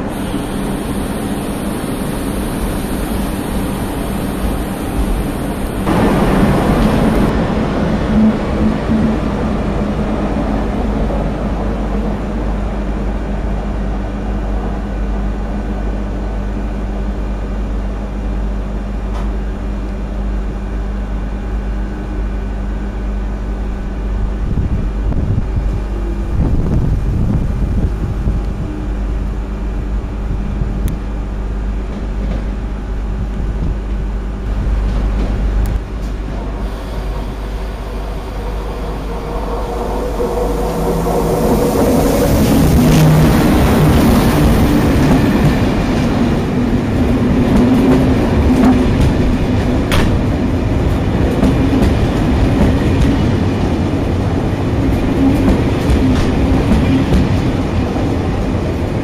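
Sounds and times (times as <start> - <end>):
electric locomotive rolling past: 0.0 - 59.0.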